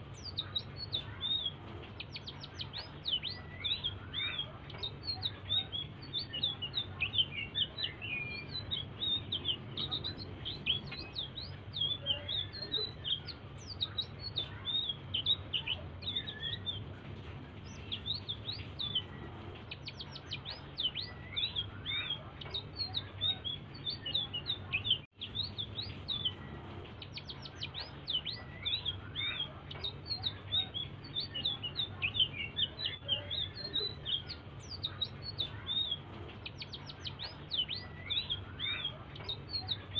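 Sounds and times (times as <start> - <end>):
low steady hum: 0.0 - 39.9
songbird singing rapid chirps: 0.0 - 39.9.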